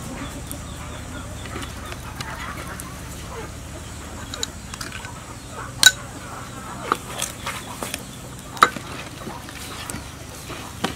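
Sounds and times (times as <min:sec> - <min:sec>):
chickens clucking: 0:00.0 - 0:10.9
steady low hum: 0:00.0 - 0:10.9.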